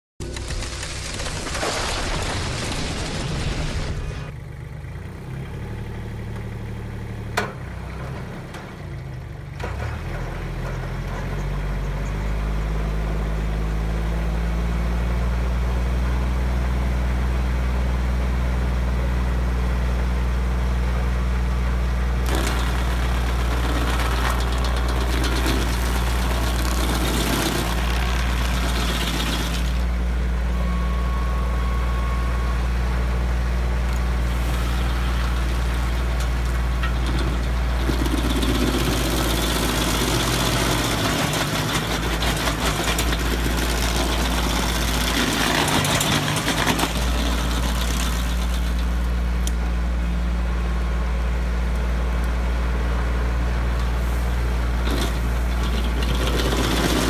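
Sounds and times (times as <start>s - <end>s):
tractor engine running: 0.2s - 57.0s.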